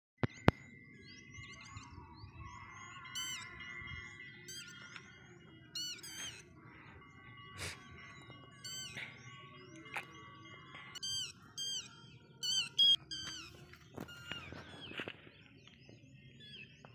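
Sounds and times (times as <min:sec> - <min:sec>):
bird call with falling end: 0:00.2 - 0:16.9
birds chirping and calling: 0:00.2 - 0:16.9.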